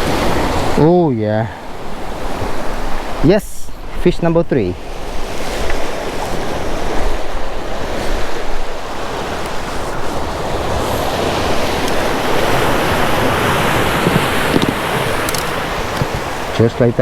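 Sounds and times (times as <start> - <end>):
ocean surf washing ashore: 0.0 - 17.0
wind rumbling on microphone: 0.0 - 17.0.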